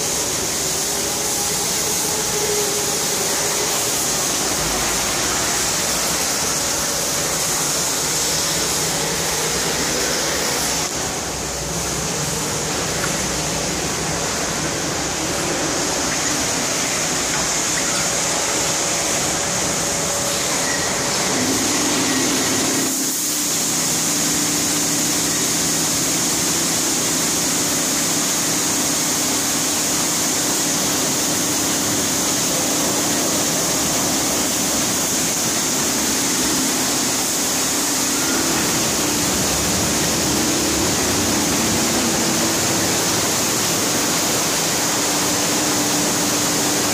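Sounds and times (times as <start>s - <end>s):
car wash machinery noise: 0.0s - 46.9s
steady hum: 0.0s - 46.9s
water jets spraying: 0.0s - 46.9s.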